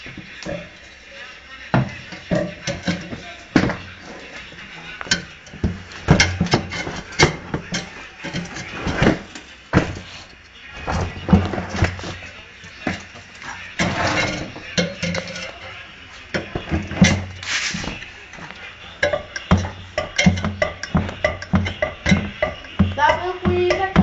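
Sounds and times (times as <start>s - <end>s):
metal scraping: 1.8s - 24.0s.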